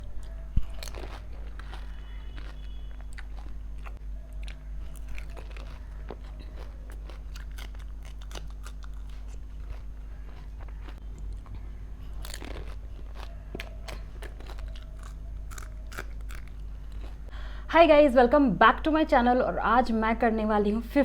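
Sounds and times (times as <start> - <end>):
crisp shells crunching in mouth: 0.0 - 17.3
wet chewing: 0.0 - 17.3
low steady hum: 0.0 - 21.0.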